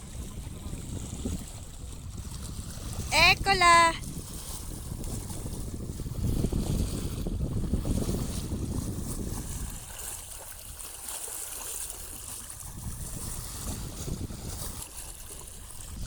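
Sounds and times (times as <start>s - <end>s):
wind buffeting microphone: 0.0s - 10.9s, 11.7s - 16.0s
water rushing along hull: 0.0s - 16.0s.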